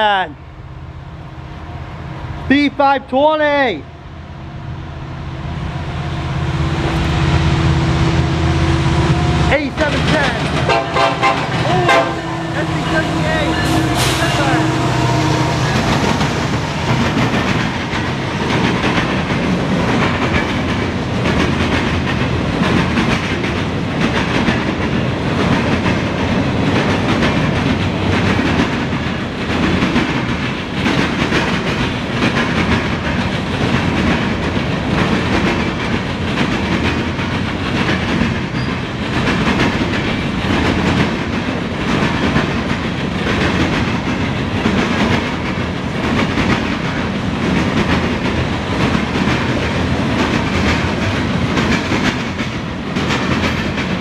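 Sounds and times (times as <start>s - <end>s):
train wheels clacking over rail joints: 9.5s - 54.0s.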